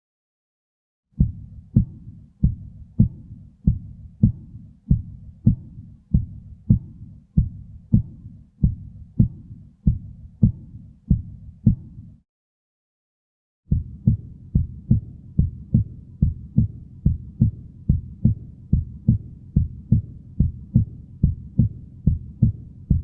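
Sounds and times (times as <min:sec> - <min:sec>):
heartbeat thumps: 0:01.2 - 0:12.0, 0:13.7 - 0:23.0.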